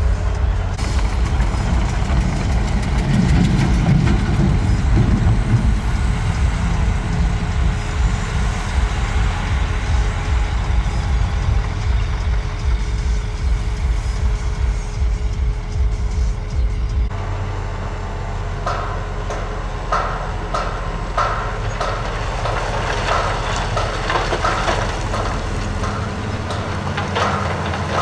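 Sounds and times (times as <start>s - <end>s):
heavy diesel machinery rumbling: 0.0s - 28.0s.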